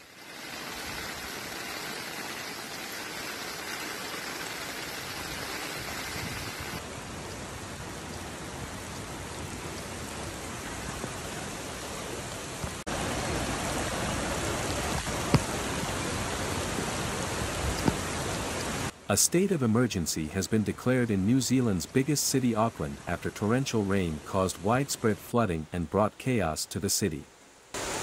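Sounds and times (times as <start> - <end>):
heavy rain pouring: 0.0 - 26.7, 27.7 - 28.0.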